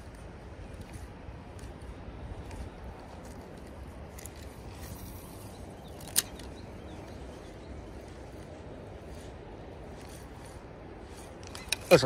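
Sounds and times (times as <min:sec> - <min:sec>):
wind rumble: 0:00.0 - 0:12.0.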